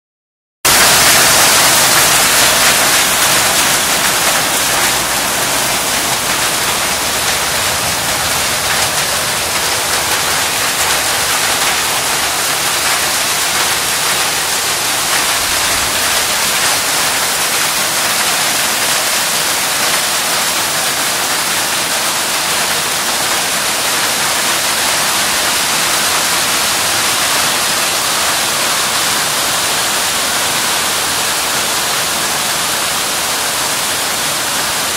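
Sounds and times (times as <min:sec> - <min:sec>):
hail and heavy rain pelting: 0:00.7 - 0:34.9.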